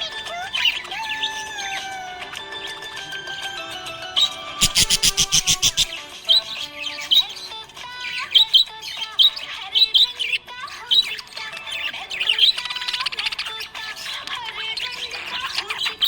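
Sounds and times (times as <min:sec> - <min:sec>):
budgerigar chirping and warbling: 0:00.0 - 0:16.0.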